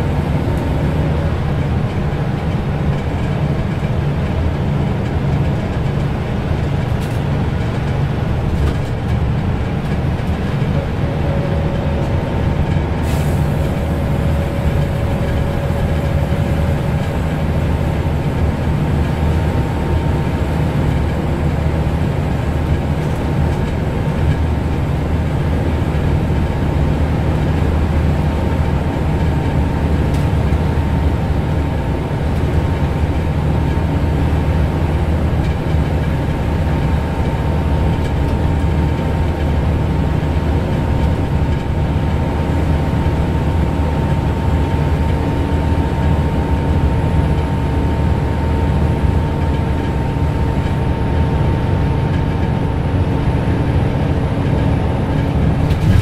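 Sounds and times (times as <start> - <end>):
bus engine drone: 0.0 - 56.0
road and tyre noise: 0.0 - 56.0.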